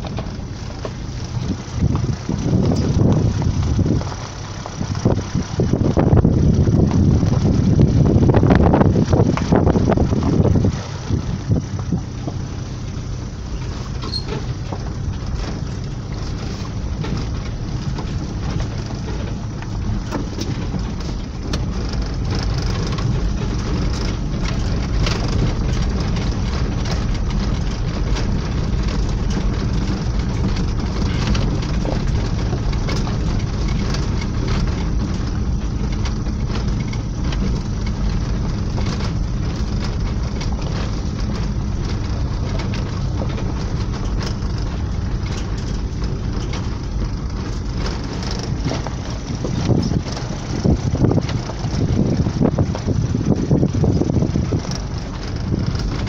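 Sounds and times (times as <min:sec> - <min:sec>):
engine and tyre rumble: 0:00.0 - 0:56.0
stones crunching under tyres: 0:00.0 - 0:56.0.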